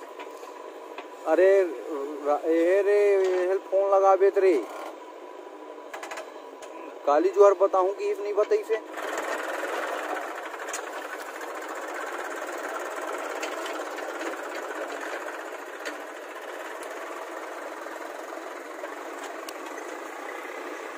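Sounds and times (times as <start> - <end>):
tractor diesel engine running: 0.0 - 4.9, 6.4 - 20.9.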